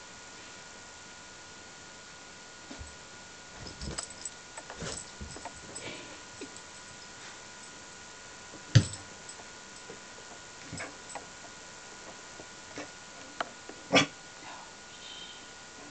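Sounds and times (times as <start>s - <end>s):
faint steady background noise: 0.0s - 15.9s.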